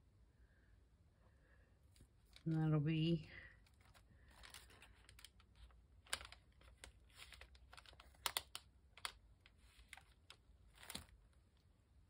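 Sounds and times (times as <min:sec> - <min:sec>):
soft paper rustling: 0:01.8 - 0:11.8.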